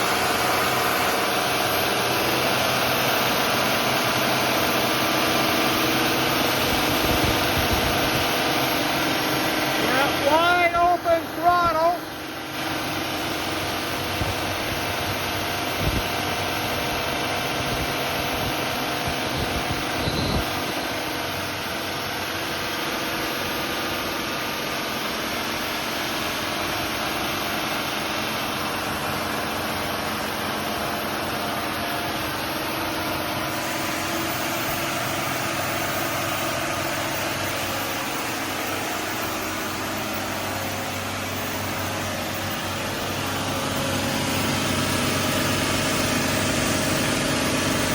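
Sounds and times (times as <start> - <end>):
boat diesel engines running: 0.0 - 47.9.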